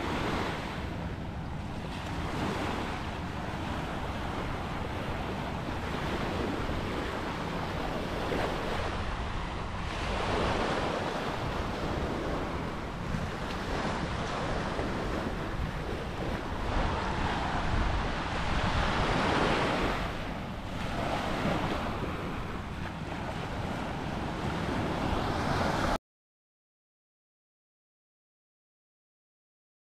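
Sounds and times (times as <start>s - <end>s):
ocean waves breaking on beach: 0.0s - 26.0s
wind buffeting microphone: 0.0s - 26.0s.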